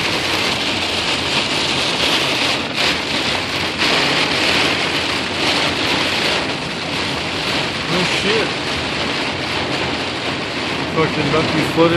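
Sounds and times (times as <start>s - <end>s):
heavy rain on a car: 0.0s - 11.9s.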